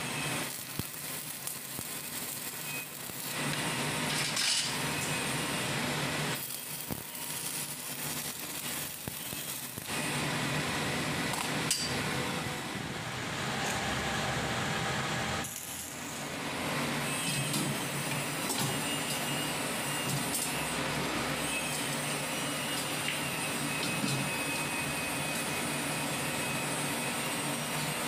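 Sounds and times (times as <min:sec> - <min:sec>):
arc welding crackling and hissing: 0:00.0 - 0:28.0.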